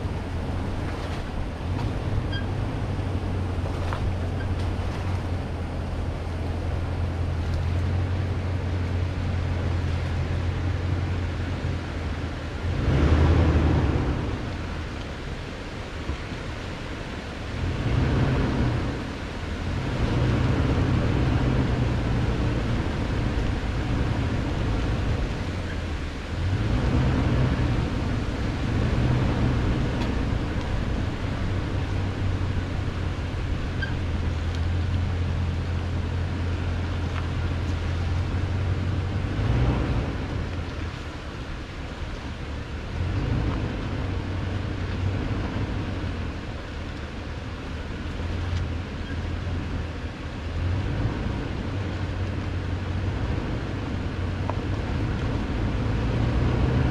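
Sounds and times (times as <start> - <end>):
truck engine droning: 0.0 - 56.9
tyre and wind noise: 0.0 - 56.9.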